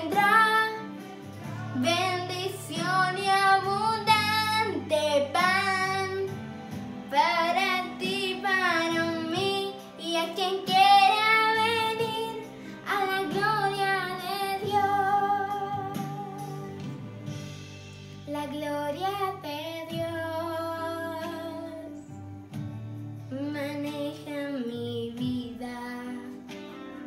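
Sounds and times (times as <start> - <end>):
girl singing: 0.0 - 6.4, 7.1 - 16.8, 18.3 - 22.1, 23.3 - 26.6.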